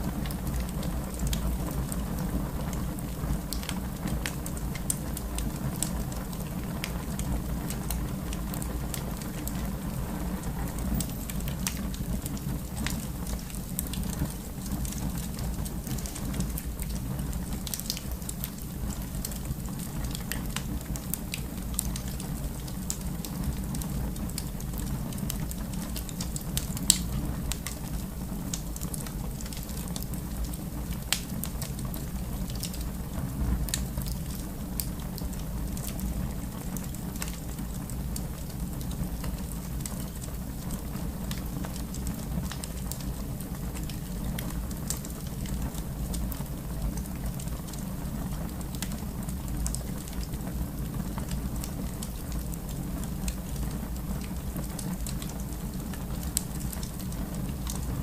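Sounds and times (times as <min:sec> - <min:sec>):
fire popping and snapping: 0:00.0 - 0:58.0
fire rumbling: 0:00.0 - 0:58.0.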